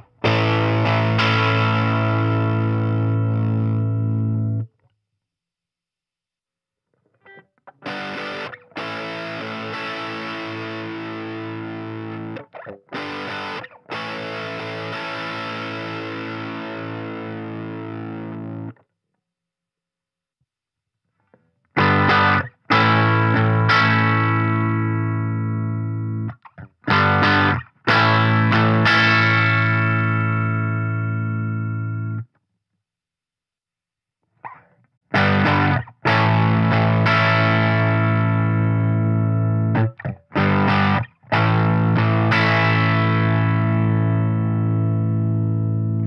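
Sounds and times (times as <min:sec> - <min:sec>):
electric guitar chords: 0:00.0 - 0:04.7, 0:07.2 - 0:18.8, 0:21.7 - 0:32.3, 0:34.5 - 0:46.0.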